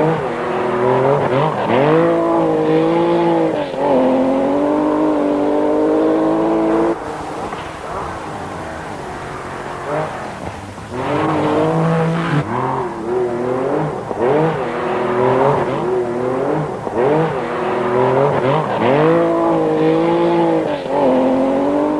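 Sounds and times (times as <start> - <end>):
car engine revving through gears: 0.0 - 21.9.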